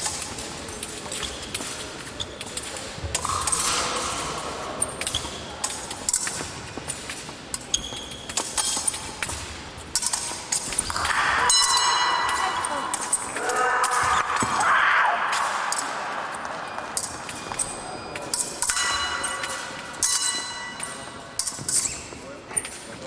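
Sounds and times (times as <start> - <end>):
fencing blades clicking and tapping: 0.0 - 14.6, 16.8 - 23.0.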